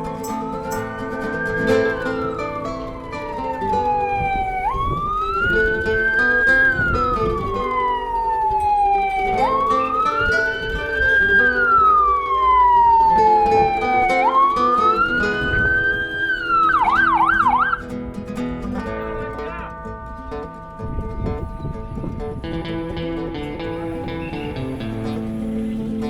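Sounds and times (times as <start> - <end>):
electronic siren wailing: 0.0 - 17.8, 18.8 - 26.0
background music: 0.0 - 26.0.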